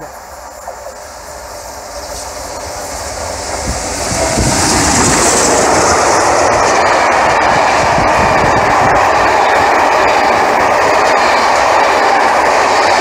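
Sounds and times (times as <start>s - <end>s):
steam locomotive passing: 0.0s - 13.0s
train wheels on rails: 0.0s - 13.0s.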